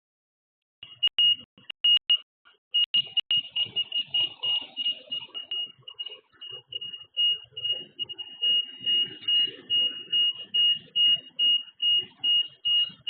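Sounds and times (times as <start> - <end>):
high-pitched electronic alarm beeping: 0.8 - 13.0.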